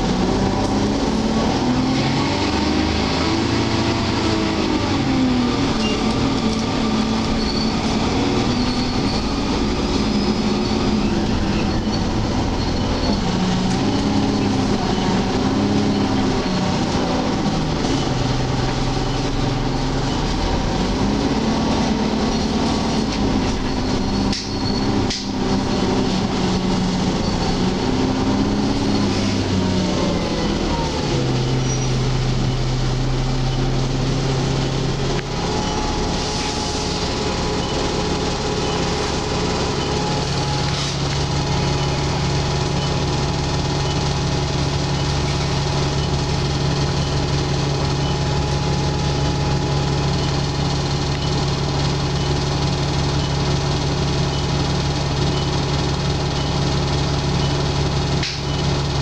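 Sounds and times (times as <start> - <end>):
bus engine: 0.0 - 59.0.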